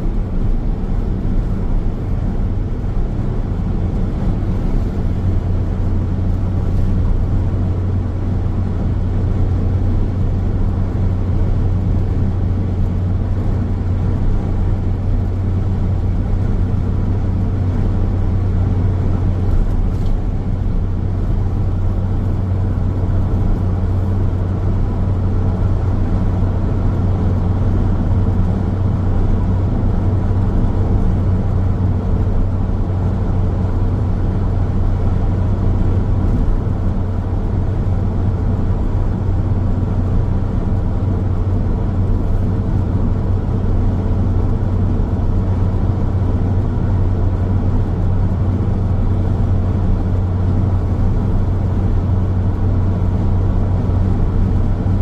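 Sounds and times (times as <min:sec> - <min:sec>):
car tyres rushing on road: 0:00.0 - 0:55.0
low car hum: 0:00.0 - 0:55.0.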